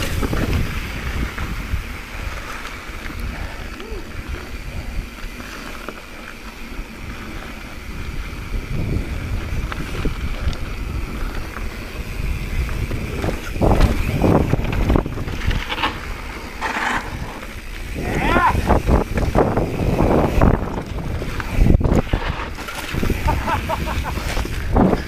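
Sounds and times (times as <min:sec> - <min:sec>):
wind buffeting microphone: 0:00.0 - 0:05.6, 0:06.6 - 0:25.0
mountain bike rolling and rattling: 0:00.0 - 0:25.0.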